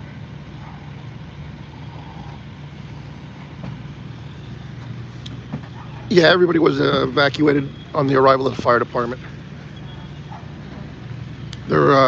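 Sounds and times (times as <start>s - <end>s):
fire engine pump droning: 0.0s - 12.0s.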